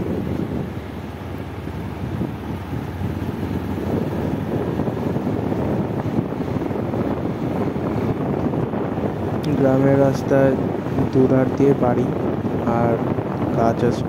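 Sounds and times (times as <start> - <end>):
motorcycle engine rumble: 0.0 - 14.0
wind buffeting on microphone: 0.0 - 14.0.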